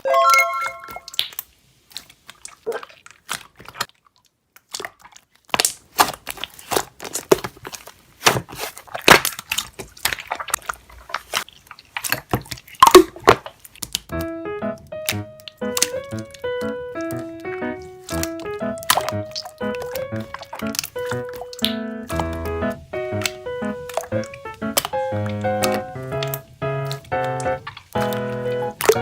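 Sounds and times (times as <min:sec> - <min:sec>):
slime crackling and squishing: 0:01.2 - 0:14.2, 0:15.0 - 0:29.0.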